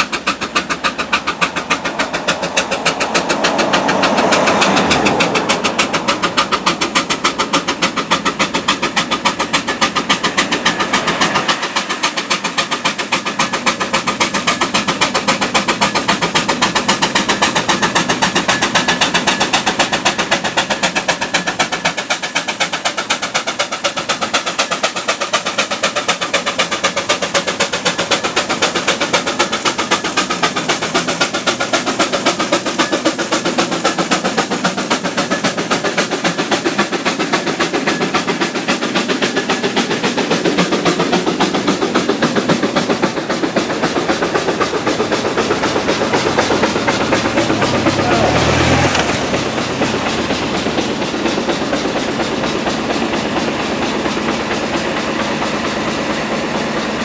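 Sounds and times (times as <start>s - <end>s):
motor vehicle rumble: 0.0s - 57.0s
steam engine exhaust chuffs: 0.0s - 57.0s.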